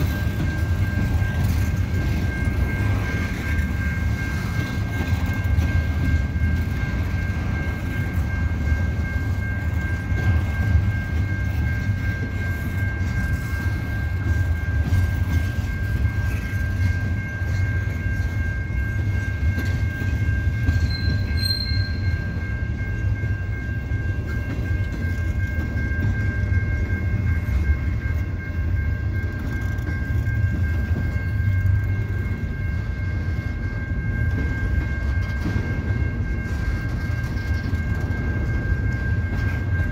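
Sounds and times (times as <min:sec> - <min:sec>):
steady high-pitched tone: 0:00.0 - 0:39.9
train cars rumbling on rails: 0:00.0 - 0:39.9.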